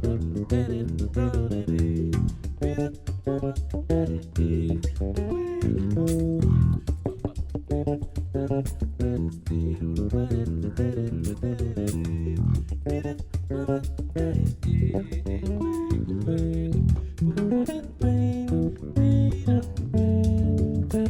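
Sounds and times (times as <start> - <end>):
bass guitar plucked runs: 0.0 - 21.0
percussion: 0.0 - 21.0.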